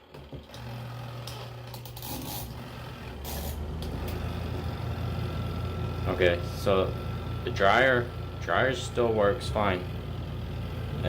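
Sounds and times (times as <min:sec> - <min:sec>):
spin-dryer motor humming: 0:00.0 - 0:11.0.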